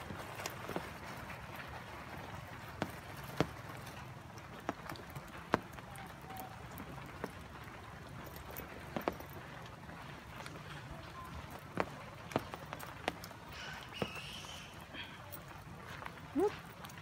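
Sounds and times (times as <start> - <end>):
light rain hiss: 0.0 - 17.0
raindrops tapping close by: 0.0 - 17.0.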